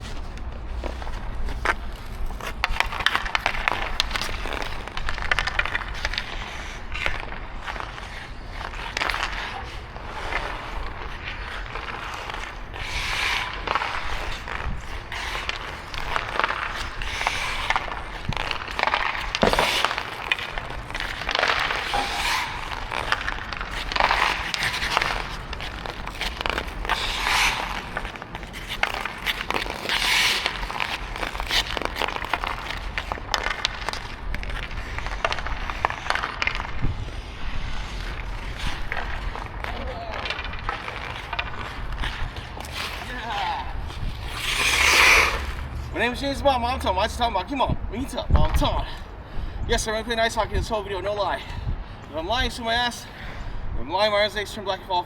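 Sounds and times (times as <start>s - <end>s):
ice skates scraping on ice: 0.0s - 55.0s.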